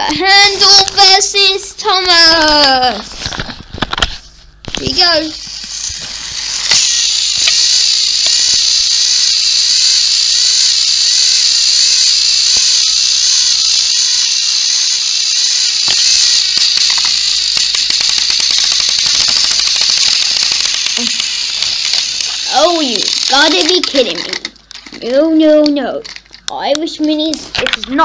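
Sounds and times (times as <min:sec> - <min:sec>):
toy train motors whirring: 0:00.0 - 0:28.0.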